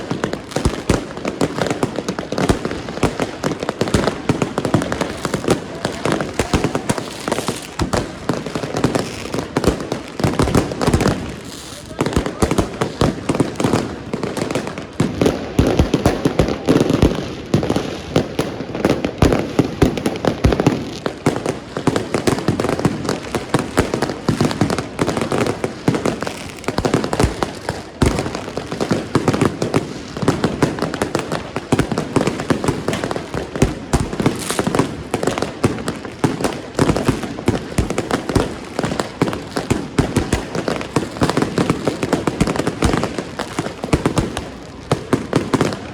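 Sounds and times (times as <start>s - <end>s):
fireworks barrage: 0.0s - 45.9s.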